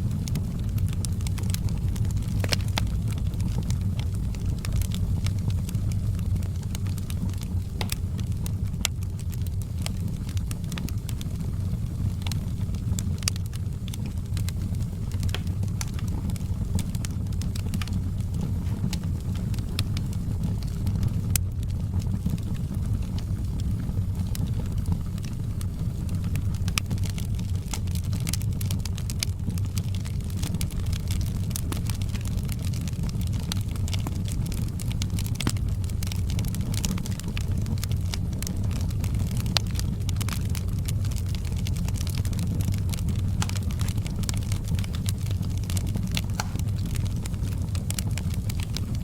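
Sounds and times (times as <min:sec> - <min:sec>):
burning wood crackling: 0:00.0 - 0:49.0
low fire rumble: 0:00.0 - 0:49.0.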